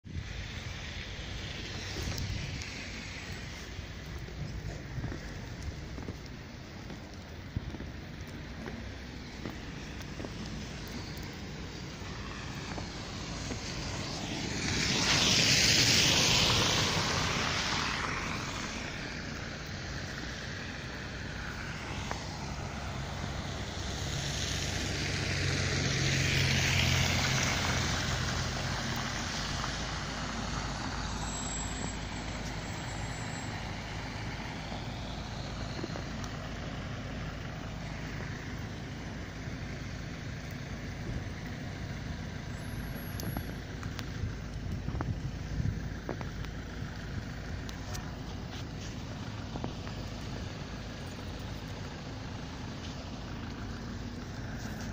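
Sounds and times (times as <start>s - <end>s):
low engine hum: 0.0s - 54.9s
vehicles passing on slushy road: 0.1s - 54.9s.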